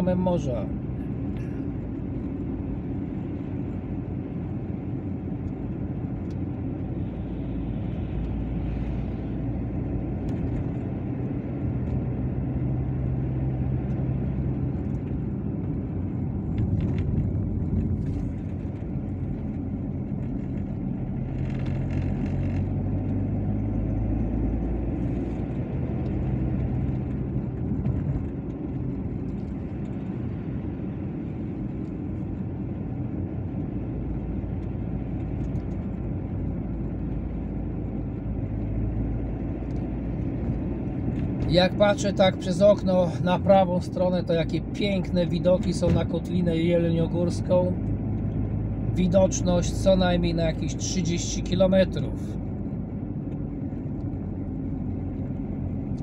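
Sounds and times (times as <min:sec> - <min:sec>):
car engine hum: 0:00.0 - 0:56.0
tyres rumbling on asphalt: 0:00.0 - 0:56.0.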